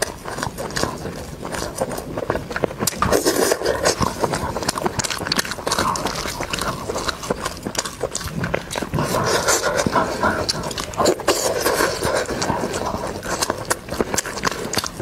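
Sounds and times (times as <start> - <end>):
close chewing with lip smacks: 0.0 - 15.0.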